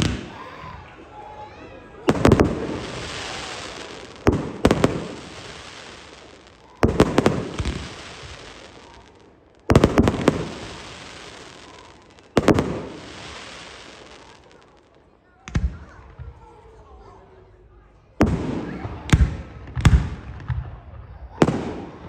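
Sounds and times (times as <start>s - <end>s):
fireworks bursting with bangs: 0.0s - 16.7s, 18.2s - 22.0s.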